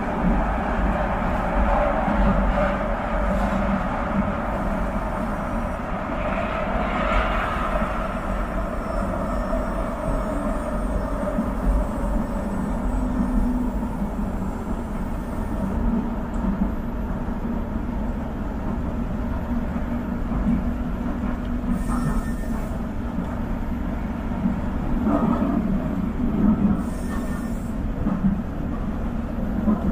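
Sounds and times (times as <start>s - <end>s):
light-rail train running: 0.0s - 29.9s.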